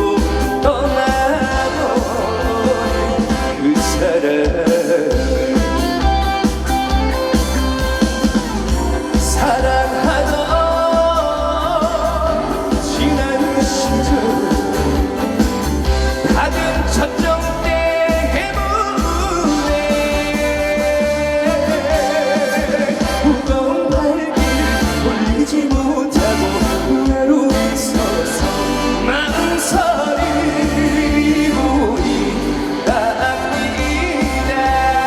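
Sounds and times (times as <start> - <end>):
trot song over pa system: 0.0 - 35.0.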